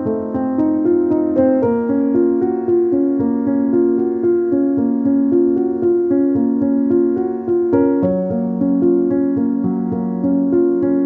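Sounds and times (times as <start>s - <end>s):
piano melody: 0.0s - 11.0s.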